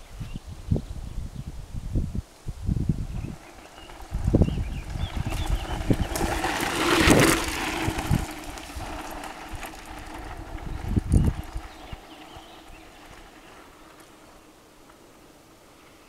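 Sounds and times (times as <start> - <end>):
bike tyres crunching on gravel: 2.8 - 15.8.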